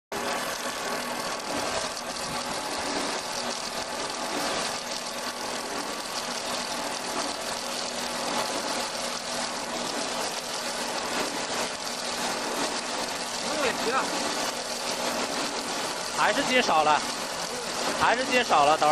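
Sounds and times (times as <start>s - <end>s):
lathe motor humming: 0.1s - 18.9s
cutter shaving wood hiss: 0.2s - 18.9s.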